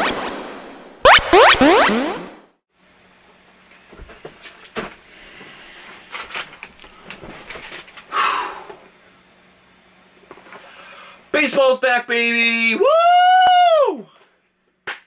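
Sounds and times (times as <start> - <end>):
faint steady hum: 2.8 - 14.8.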